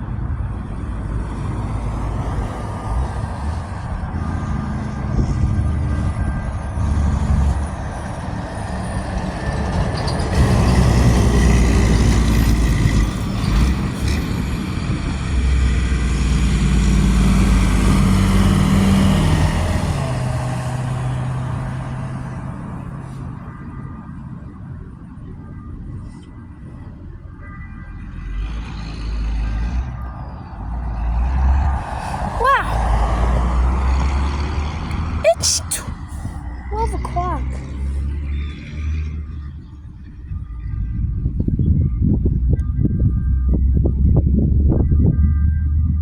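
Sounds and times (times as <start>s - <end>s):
heavy vehicles rumbling past: 0.0s - 26.0s, 27.4s - 42.6s.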